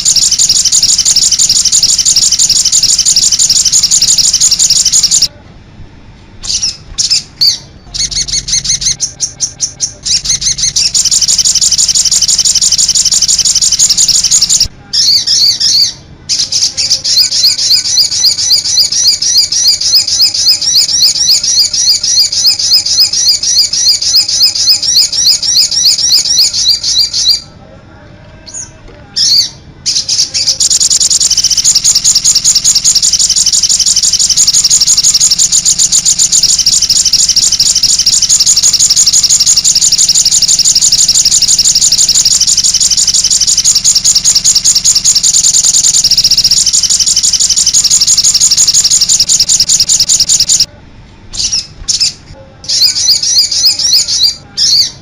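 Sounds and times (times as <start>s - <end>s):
songbird chirping: 0.0s - 5.3s, 6.4s - 27.6s, 28.4s - 50.7s, 51.3s - 55.0s.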